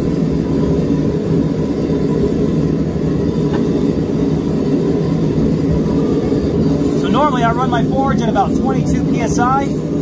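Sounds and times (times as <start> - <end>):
gas forge roaring: 0.0 - 10.0.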